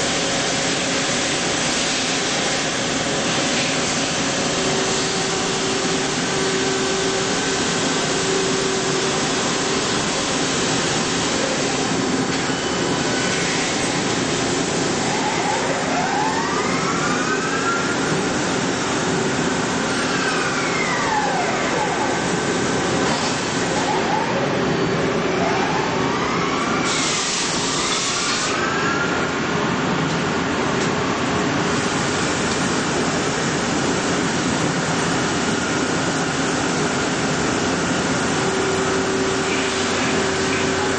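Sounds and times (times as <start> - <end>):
lathe machine noise: 0.0 - 40.9.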